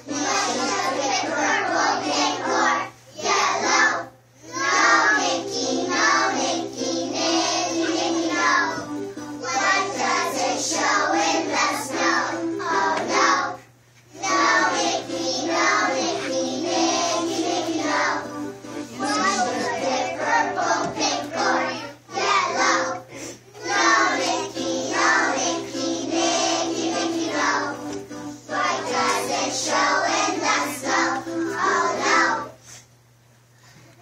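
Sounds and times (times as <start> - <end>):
young children singing together: 0.0 - 32.8.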